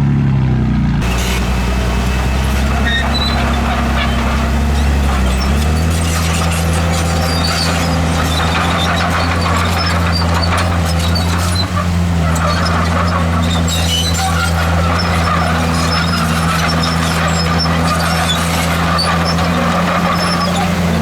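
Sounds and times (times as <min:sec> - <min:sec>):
bulldozer diesel engine running: 0:00.6 - 0:21.0
crawler tracks squeaking and clinking: 0:01.0 - 0:21.0.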